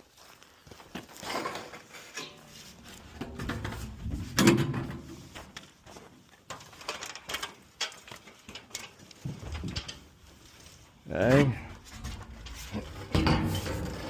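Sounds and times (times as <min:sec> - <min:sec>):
handling and scraping noises: 0:00.0 - 0:14.0.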